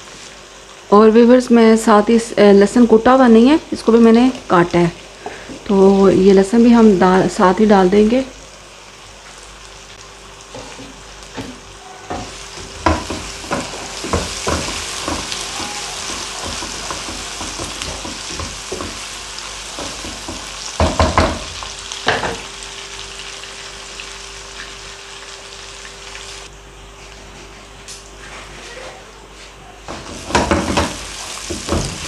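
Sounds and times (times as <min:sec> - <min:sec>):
onions sizzling in hot oil: 0:00.0 - 0:26.5, 0:29.9 - 0:32.0.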